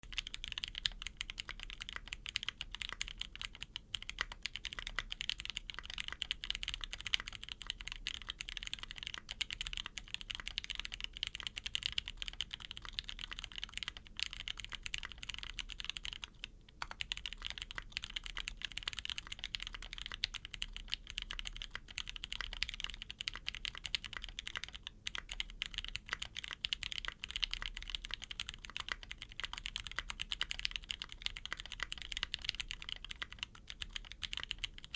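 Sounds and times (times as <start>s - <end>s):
mechanical keyboard typing: 0.0s - 34.9s.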